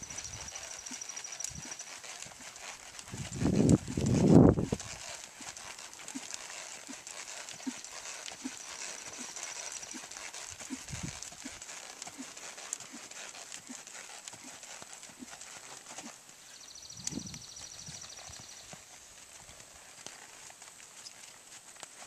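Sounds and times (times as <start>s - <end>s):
hoofbeats on sand: 0.0s - 22.0s.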